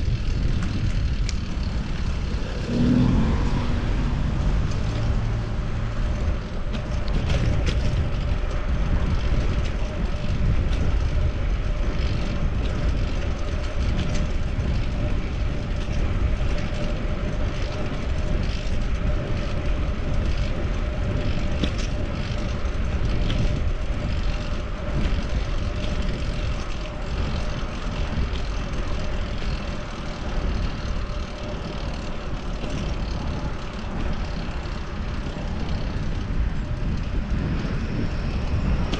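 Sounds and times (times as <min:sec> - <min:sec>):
road traffic: 0:00.0 - 0:38.9
wind on microphone: 0:00.0 - 0:38.9.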